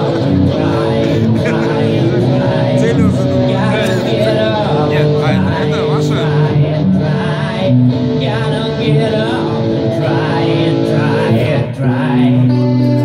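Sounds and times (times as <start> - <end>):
electric guitar playing: 0.0 - 13.0
person singing: 0.0 - 13.0.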